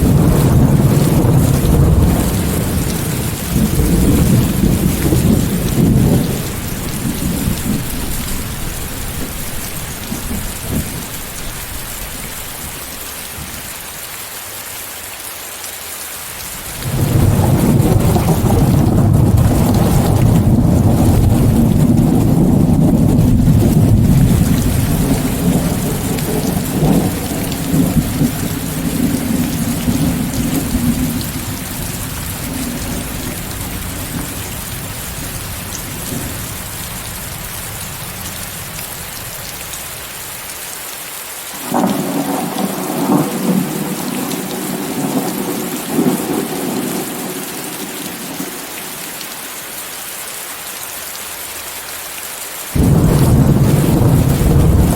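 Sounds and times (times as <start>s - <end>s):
thunder rumbling: 0.0s - 13.7s, 16.6s - 39.4s, 41.6s - 48.6s, 52.8s - 54.9s
heavy rain hissing: 0.0s - 54.9s.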